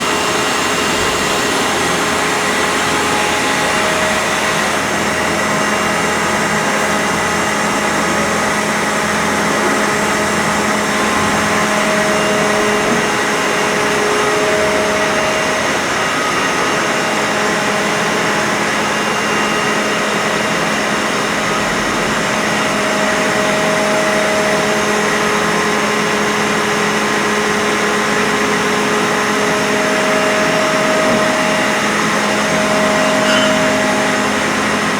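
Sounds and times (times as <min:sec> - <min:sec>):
cnc machine running: 0:00.0 - 0:34.9
whining machine tones: 0:00.0 - 0:34.9.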